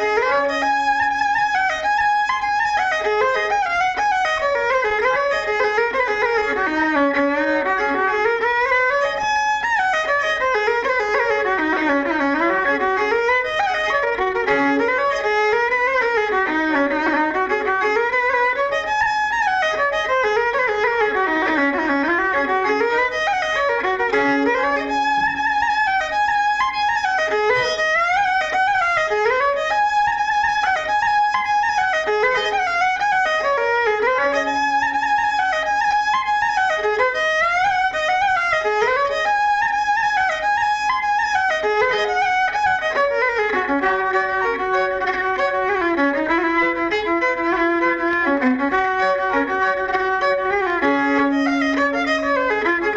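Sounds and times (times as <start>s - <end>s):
fast fiddle dance music: 0.0s - 52.9s.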